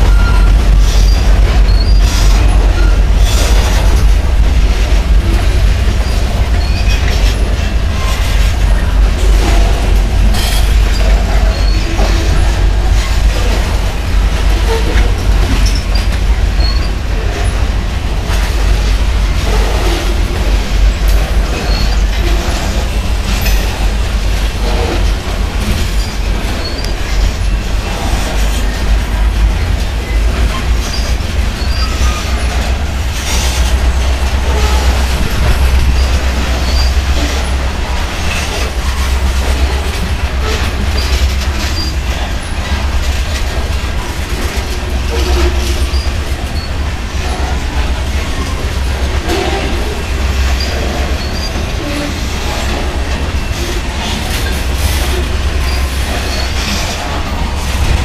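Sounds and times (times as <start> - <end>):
steel wheels rumbling on rail: 0.0 - 58.0
wheels clicking over rail joints: 0.0 - 58.0.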